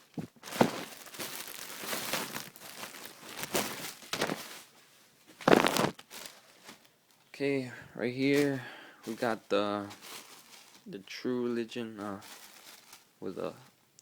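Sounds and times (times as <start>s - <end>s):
packaging crinkling and rustling: 0.0s - 7.2s, 8.3s - 11.2s, 11.8s - 13.7s.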